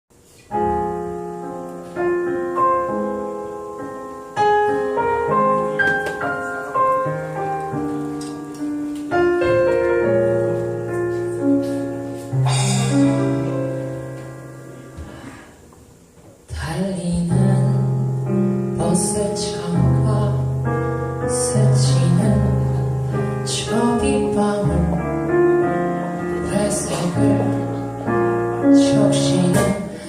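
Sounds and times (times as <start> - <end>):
solo piano chords: 0.2 - 15.8, 16.4 - 30.0.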